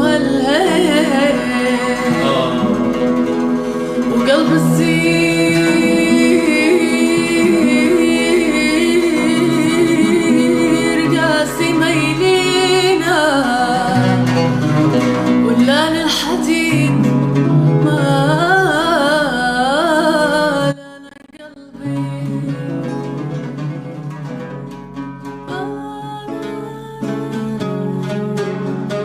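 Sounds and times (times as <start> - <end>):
person singing ornamented melody: 0.0 - 23.3, 25.5 - 29.0
plucked strings: 0.0 - 29.0.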